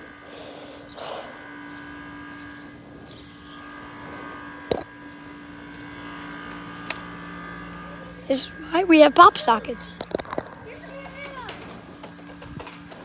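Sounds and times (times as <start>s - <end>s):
steady hum of fixed tones: 0.0s - 13.0s.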